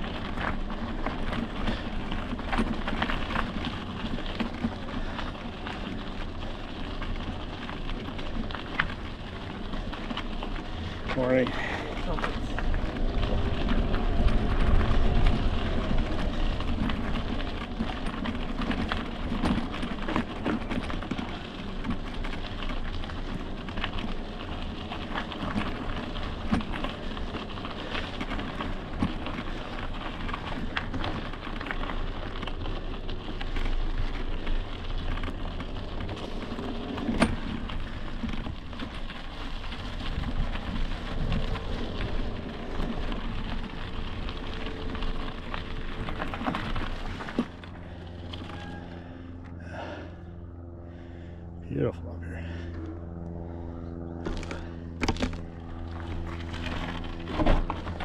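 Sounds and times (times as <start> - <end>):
wind rumble on microphone: 0.0 - 49.2
bike tyres crunching and rattling: 0.0 - 58.0.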